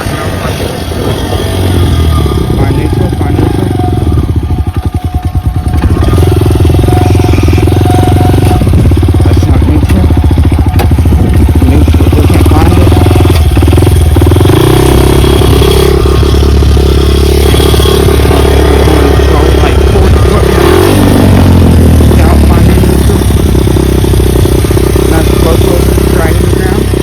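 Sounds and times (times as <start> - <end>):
dirt bike engine under load: 0.0 - 27.0.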